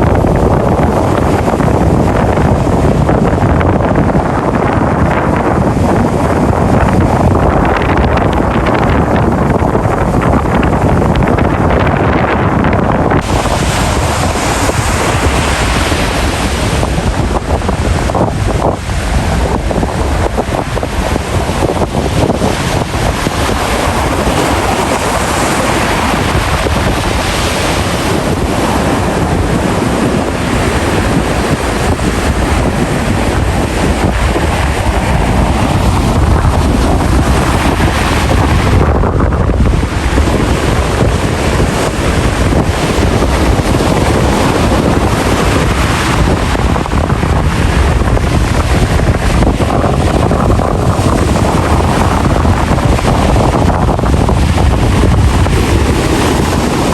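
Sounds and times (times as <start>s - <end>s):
ocean waves rushing: 0.0s - 56.9s
wind buffeting microphone: 0.0s - 56.9s.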